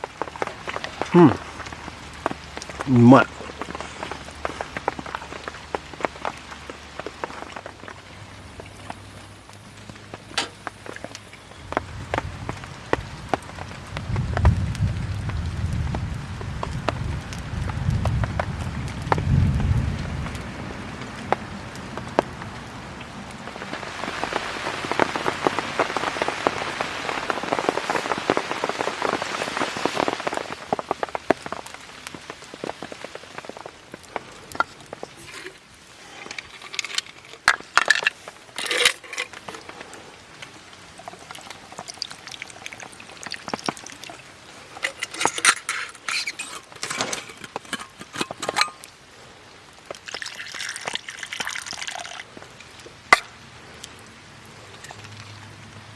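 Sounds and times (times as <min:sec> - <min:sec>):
rain pattering on a tarp: 0:00.0 - 0:55.9.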